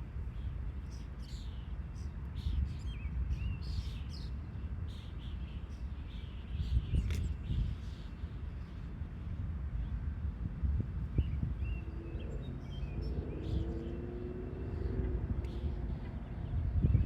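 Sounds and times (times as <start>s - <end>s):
small birds chirping: 0.3s - 8.9s, 11.1s - 17.0s
steady low rumble: 2.2s - 17.0s.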